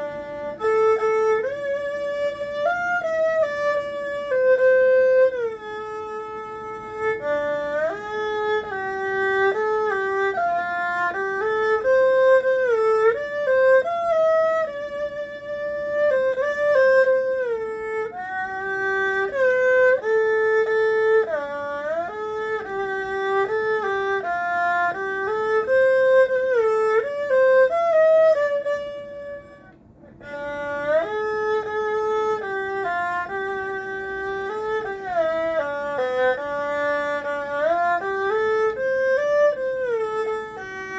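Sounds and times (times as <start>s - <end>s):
erhu playing slow melody: 0.0s - 40.9s.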